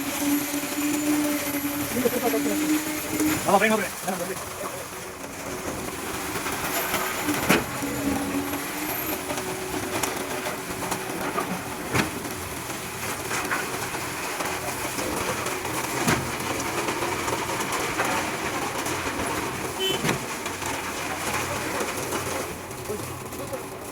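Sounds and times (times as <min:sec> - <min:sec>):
construction machinery running: 0:00.0 - 0:23.9.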